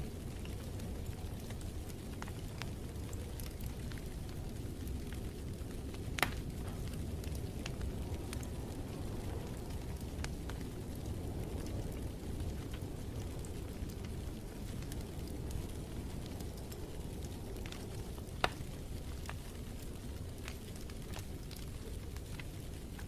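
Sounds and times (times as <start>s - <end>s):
fire crackling and popping: 0.0s - 23.0s
fire rumbling in fireplace: 0.0s - 23.0s.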